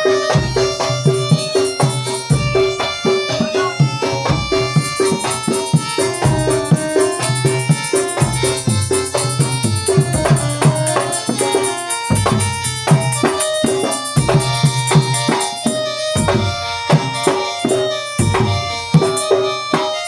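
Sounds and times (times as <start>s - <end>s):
hand drums beating: 0.0s - 20.0s
held instrumental tones: 0.0s - 20.0s.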